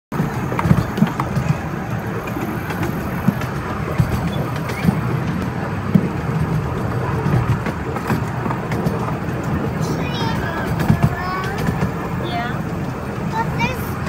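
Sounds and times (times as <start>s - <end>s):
miniature train rolling on track: 0.1s - 14.0s
wheels clacking: 0.1s - 14.0s.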